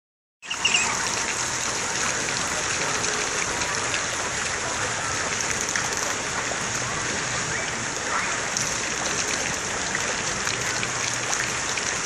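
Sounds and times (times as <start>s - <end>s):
water jets spraying and splattering: 0.4s - 12.0s.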